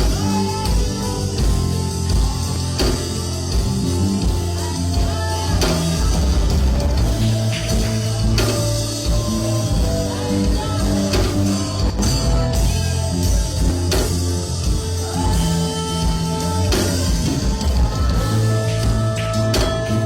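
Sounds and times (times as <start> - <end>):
band music with guitar: 0.0 - 20.0.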